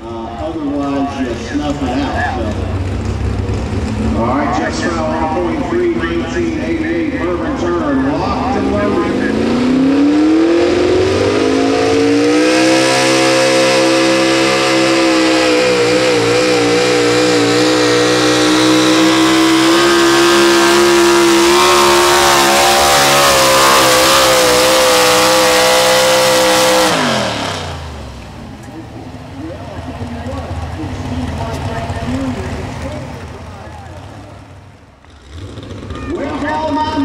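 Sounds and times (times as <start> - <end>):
pulling truck engine at full throttle: 0.0 - 37.0.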